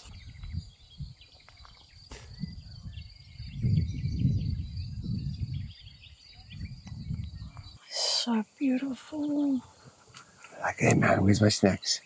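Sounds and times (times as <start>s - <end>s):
faint bird chirps: 0.0s - 10.8s
wind buffeting microphone: 0.0s - 11.4s.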